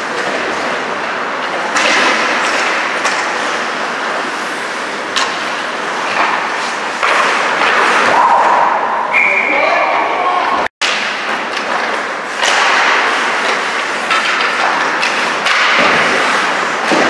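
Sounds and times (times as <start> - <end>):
hockey sticks and puck clacking: 0.0 - 9.0, 10.8 - 17.0
skates scraping ice: 0.0 - 9.0, 10.8 - 17.0
arena noise: 0.0 - 17.0.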